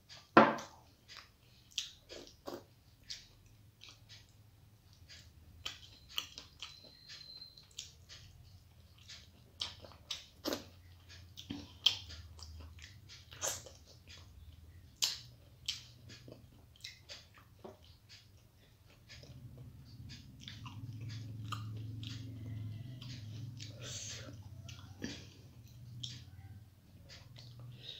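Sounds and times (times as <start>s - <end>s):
low steady hum: 0.0s - 27.9s
chewing food: 0.1s - 27.9s.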